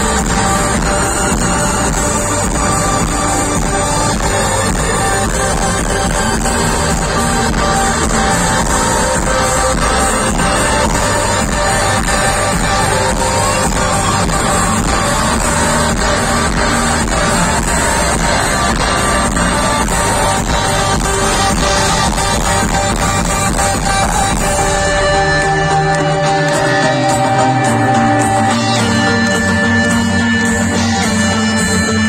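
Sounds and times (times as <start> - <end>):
live pop music over loudspeakers: 0.0 - 32.0.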